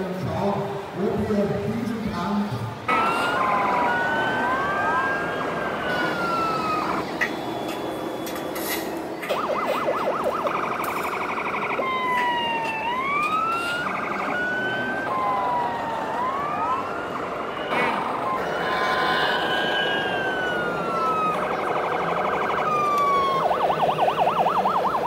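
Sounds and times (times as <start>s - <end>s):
steady background noise: 0.0s - 25.0s
toy electronic sirens: 2.9s - 25.0s
warbling siren yelp: 2.9s - 25.0s.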